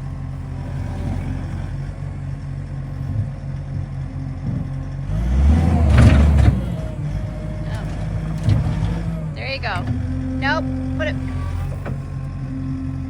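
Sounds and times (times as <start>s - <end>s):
loader engine revving: 0.0s - 13.0s.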